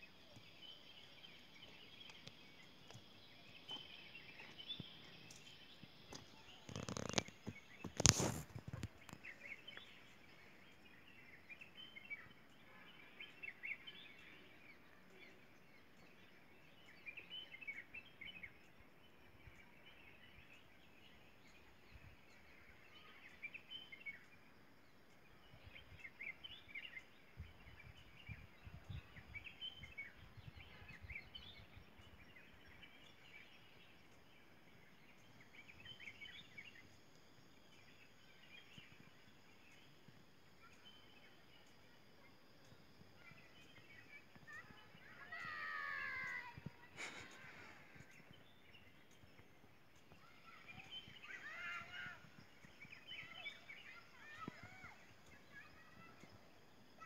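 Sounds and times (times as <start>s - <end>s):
birds chirping: 0.0s - 57.0s
faint outdoor background hiss: 0.0s - 57.0s.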